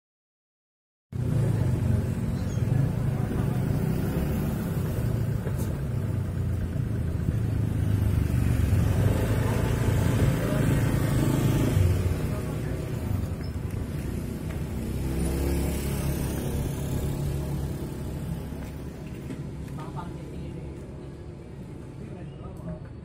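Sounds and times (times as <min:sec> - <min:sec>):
road traffic rumble: 0:01.1 - 0:23.0
motorcycle riding past: 0:01.2 - 0:19.7.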